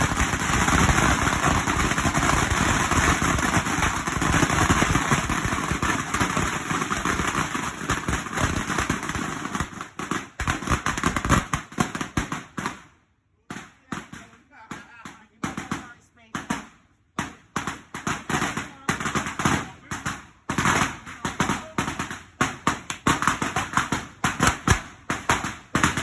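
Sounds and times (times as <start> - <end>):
firecracker string crackling bangs: 0.0 - 12.9, 13.5 - 26.0.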